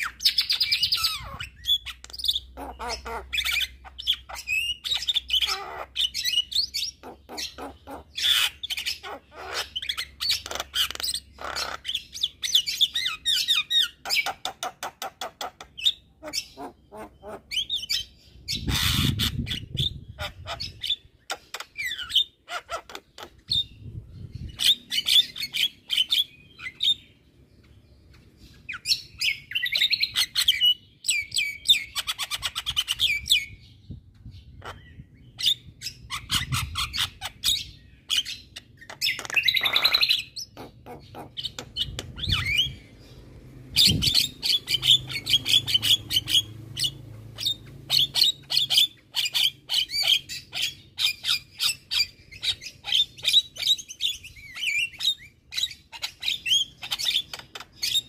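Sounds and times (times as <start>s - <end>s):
bird singing with clicks and whistles: 0.0s - 16.9s, 17.5s - 58.0s.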